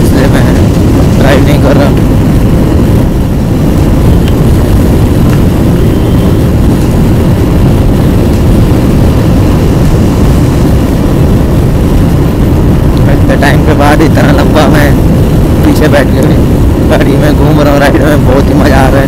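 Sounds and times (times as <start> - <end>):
motorcycle engine: 0.0 - 17.3
wind buffeting microphone: 0.0 - 19.0.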